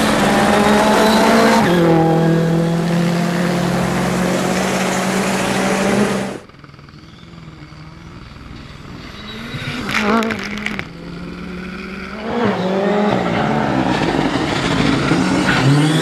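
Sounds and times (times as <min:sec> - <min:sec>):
faint distant engine: 0:00.0 - 0:16.0
rally car engine at high revs: 0:00.0 - 0:16.0.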